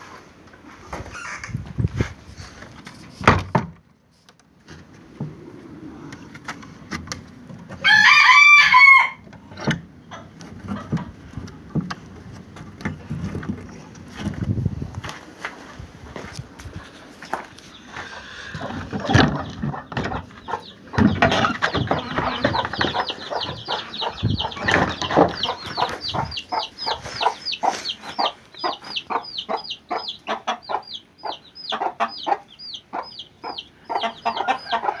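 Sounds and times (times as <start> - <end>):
chickens clucking: 5.1 - 14.6, 16.2 - 35.0.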